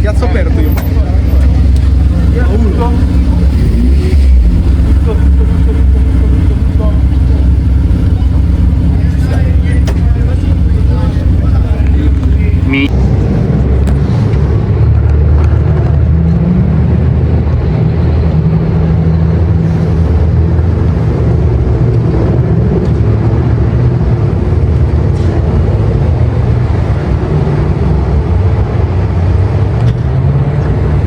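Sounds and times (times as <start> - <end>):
car engine running loudly: 0.0 - 31.0.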